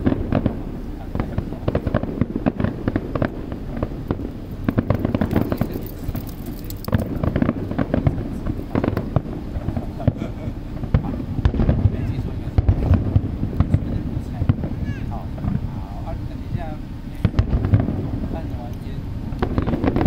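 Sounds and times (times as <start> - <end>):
fireworks bangs and crackles: 0.0 - 20.0
steady low rumble: 0.0 - 20.0.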